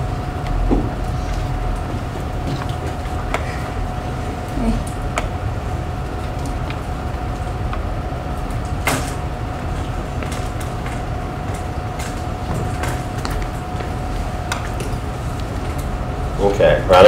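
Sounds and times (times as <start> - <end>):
faint steady whine: 0.0 - 17.0
low room hum: 0.0 - 17.0.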